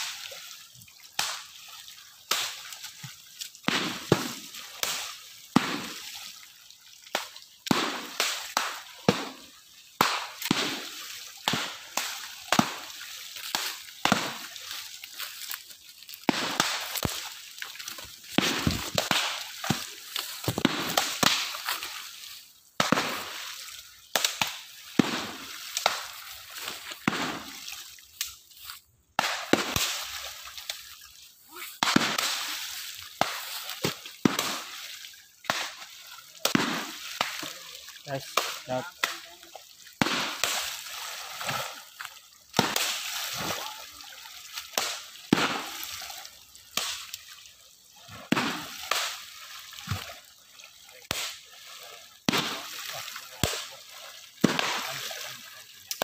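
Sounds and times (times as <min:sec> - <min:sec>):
poles slapping pond water: 0:00.0 - 0:56.0.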